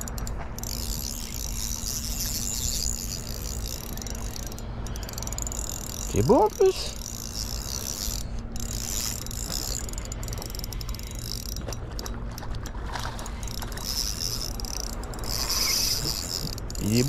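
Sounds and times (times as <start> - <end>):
fishing reel whirring and ticking: 0.0 - 17.0.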